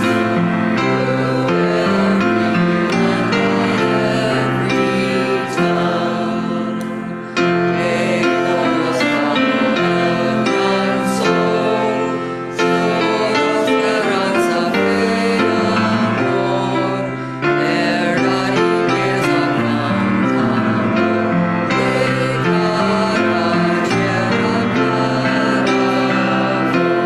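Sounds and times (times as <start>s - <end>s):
congregation singing a hymn: 0.0s - 27.0s
instrumental accompaniment: 0.0s - 27.0s.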